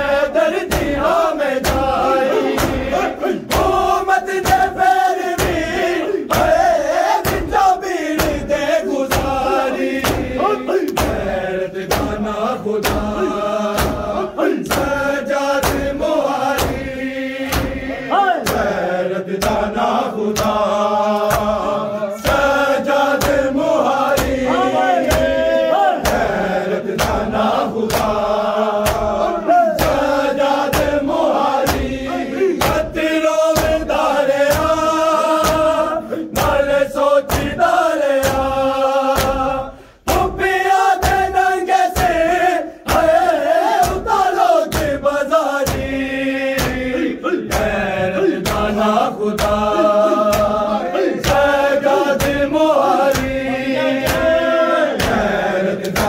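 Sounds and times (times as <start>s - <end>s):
men chanting in unison: 0.0s - 56.0s
hands slapping chests: 0.5s - 56.0s.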